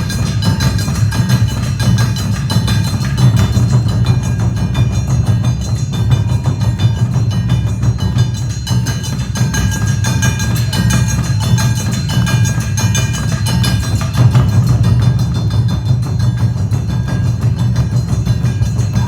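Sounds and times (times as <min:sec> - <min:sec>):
hand gong striking: 0:00.0 - 0:19.0
percussion striking sharply: 0:00.0 - 0:19.0
taiko drums beating: 0:00.0 - 0:19.0.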